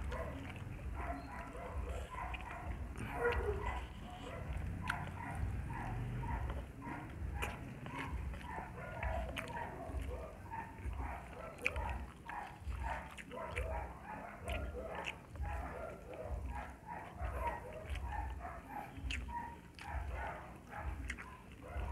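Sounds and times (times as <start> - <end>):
chewing and lip-smacking: 0.0 - 21.9.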